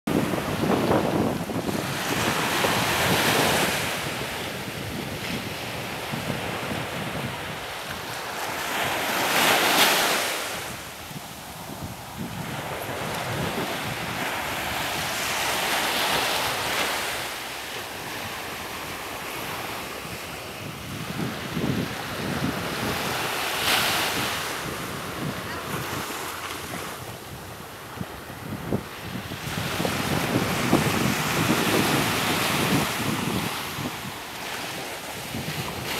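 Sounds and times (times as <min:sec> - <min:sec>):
small surf washing onto beach: 0:00.1 - 0:35.9
wind rumble on microphone: 0:00.1 - 0:35.9.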